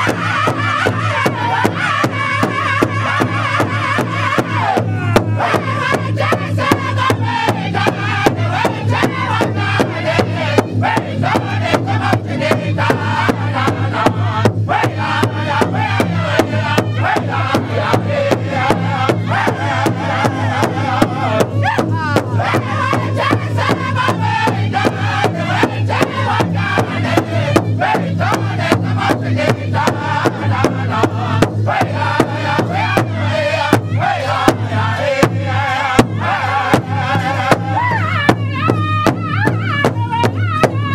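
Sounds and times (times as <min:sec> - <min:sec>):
group chanting: 0:00.0 - 0:40.9
large drum steady beat: 0:00.0 - 0:40.9.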